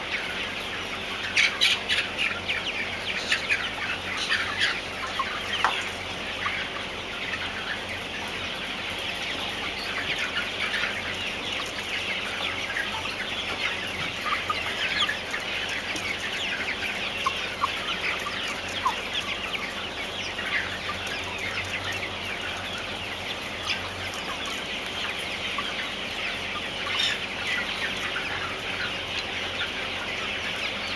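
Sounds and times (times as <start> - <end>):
hens clucking: 0.0 - 30.9.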